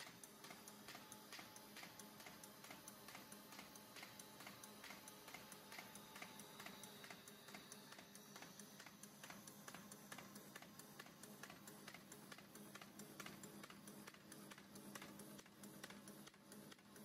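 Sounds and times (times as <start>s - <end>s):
paper folder machine ticking: 0.0s - 17.0s.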